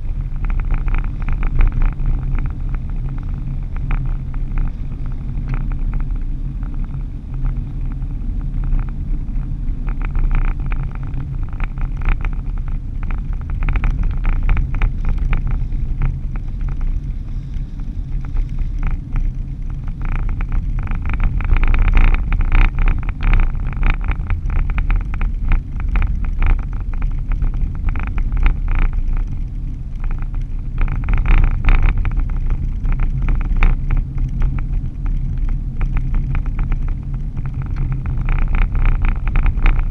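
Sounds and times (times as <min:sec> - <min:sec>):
crackling rattles: 0:00.0 - 0:39.9
vehicle engine and road rumble: 0:00.0 - 0:39.9.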